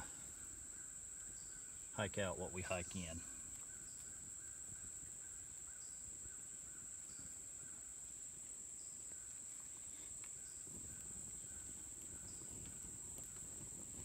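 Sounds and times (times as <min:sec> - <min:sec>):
high-pitched insect chorus: 0:00.0 - 0:14.0
insect chirps: 0:00.0 - 0:14.0.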